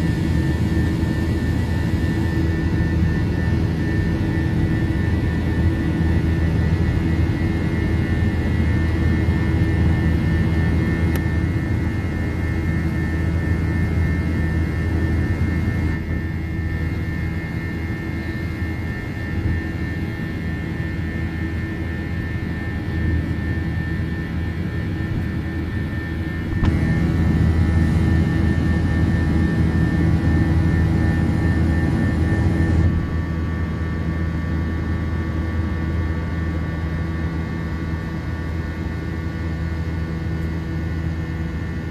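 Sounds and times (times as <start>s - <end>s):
jet engine drone: 0.0s - 41.9s.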